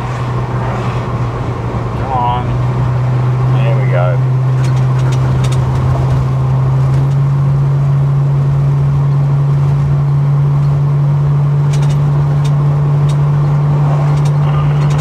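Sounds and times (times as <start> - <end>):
car engine and exhaust drone: 0.0 - 15.0.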